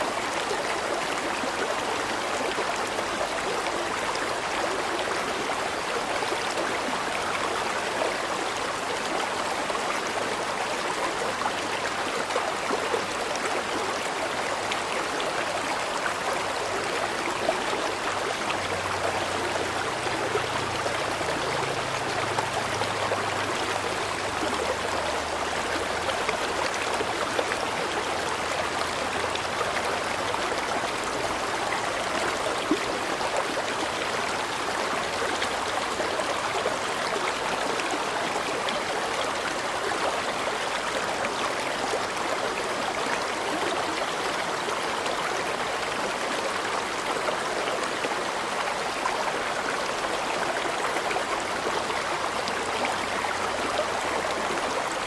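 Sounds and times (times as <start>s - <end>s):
river flowing over stones: 0.0s - 55.0s.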